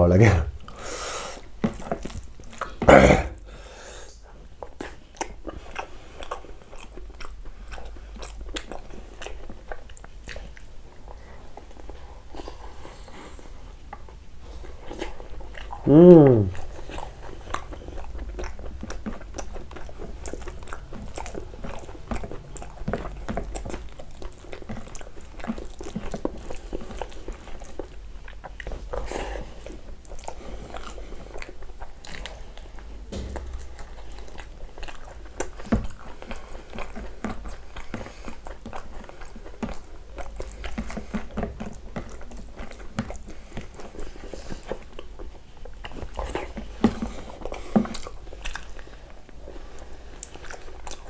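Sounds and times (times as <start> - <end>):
person chewing food: 0.6 - 51.0.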